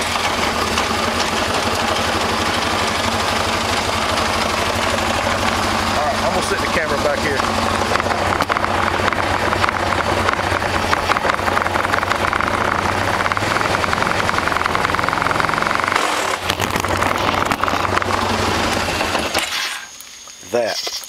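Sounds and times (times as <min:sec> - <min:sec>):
atv engine running: 0:00.0 - 0:19.7
loud fast transmission rattle: 0:00.0 - 0:19.8.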